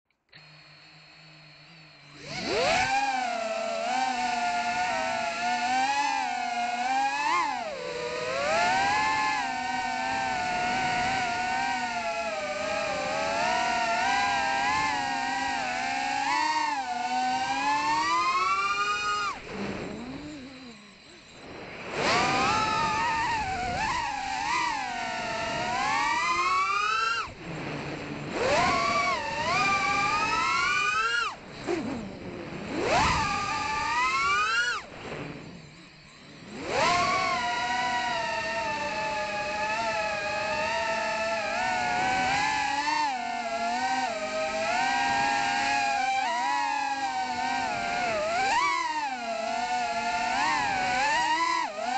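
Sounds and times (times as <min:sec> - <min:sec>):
drone motors whining: 0:00.3 - 0:51.9.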